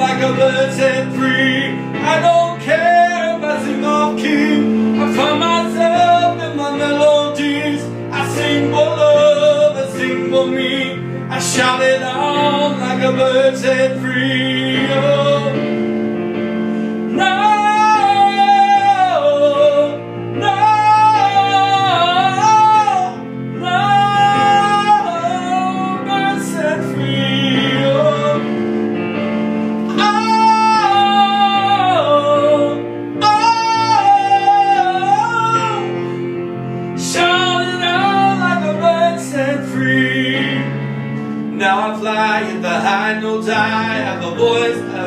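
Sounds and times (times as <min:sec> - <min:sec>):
instrumental accompaniment: 0:00.0 - 0:45.0.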